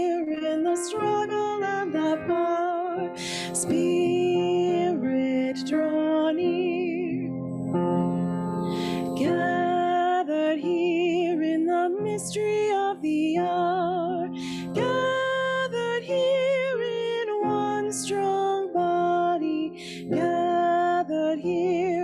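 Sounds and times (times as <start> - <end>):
woman singing a hymn: 0.0 - 7.3, 8.8 - 22.0
instrumental accompaniment: 0.0 - 22.0.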